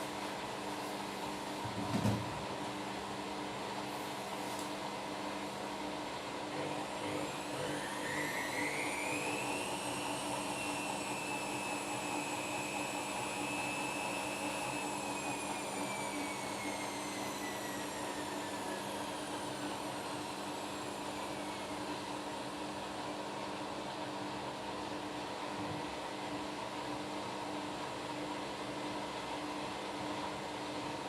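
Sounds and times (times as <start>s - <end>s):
washing machine motor whine: 0.0s - 31.0s.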